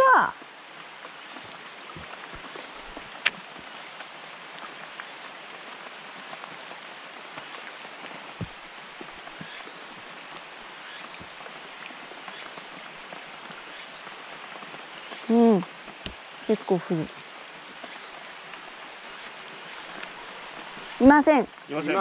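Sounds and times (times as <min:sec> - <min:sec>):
light rain on water: 0:00.0 - 0:22.0.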